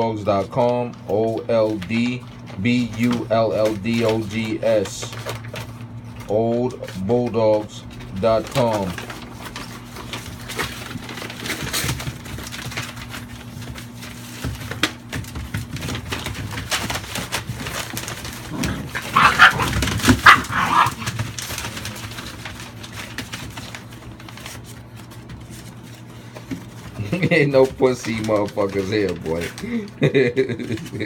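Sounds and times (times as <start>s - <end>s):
paper rustling and crinkling: 0.0s - 31.0s
puppies scuffling on newspaper: 0.0s - 31.0s.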